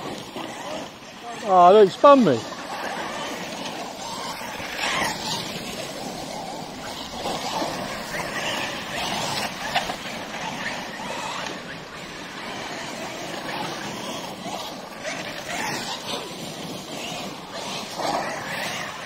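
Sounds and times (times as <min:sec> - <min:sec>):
rc trucks driving on loose ground: 0:00.0 - 0:19.0.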